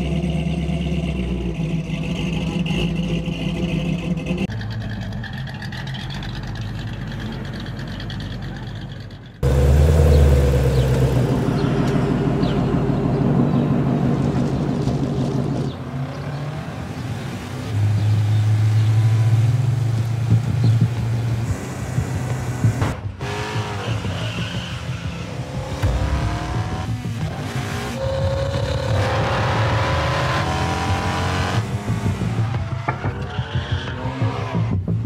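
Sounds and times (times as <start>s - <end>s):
car engine running and revving: 0.0s - 35.0s.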